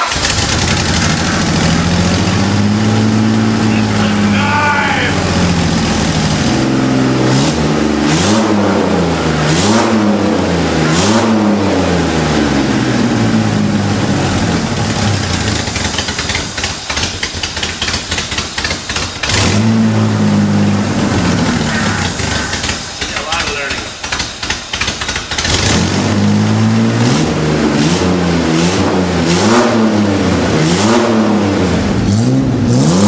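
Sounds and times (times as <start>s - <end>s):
rough engine running with ticking: 0.0s - 30.9s
engine revving: 0.0s - 33.0s.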